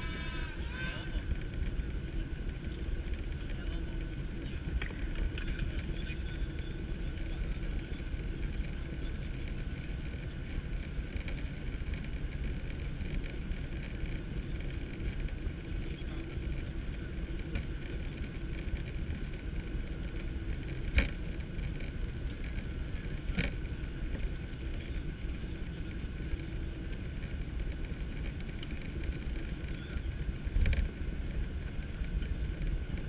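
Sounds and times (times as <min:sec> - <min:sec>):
aircraft cabin engine rumble: 0:00.0 - 0:33.0
faint steady hum: 0:00.0 - 0:33.0.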